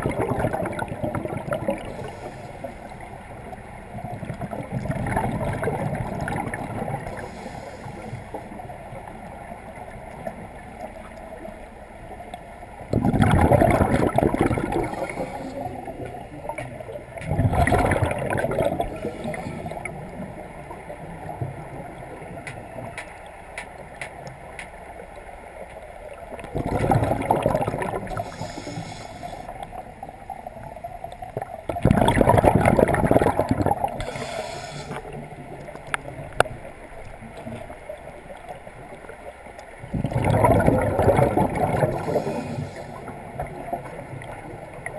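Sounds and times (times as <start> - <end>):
underwater bubbles rushing: 0.0 - 23.0, 23.8 - 44.9
low steady underwater background: 0.0 - 44.9.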